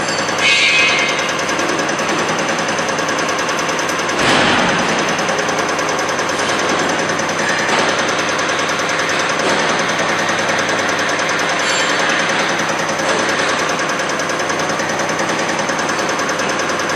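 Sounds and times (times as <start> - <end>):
injector test bench mechanical clatter: 0.0 - 16.9.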